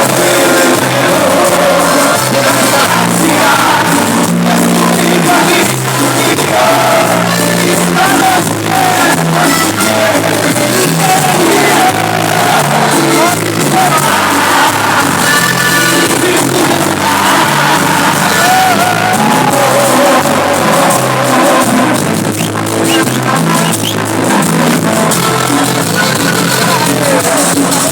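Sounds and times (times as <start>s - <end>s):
crowd shouts: 0.0s - 27.9s
live band playing: 0.0s - 27.9s
person singing: 0.0s - 27.9s.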